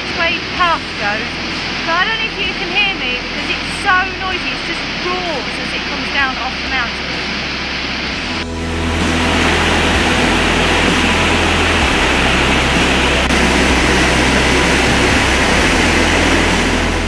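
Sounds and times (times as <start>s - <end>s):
river rushing through rapids: 0.0s - 17.0s
waterfall roaring: 0.0s - 17.0s.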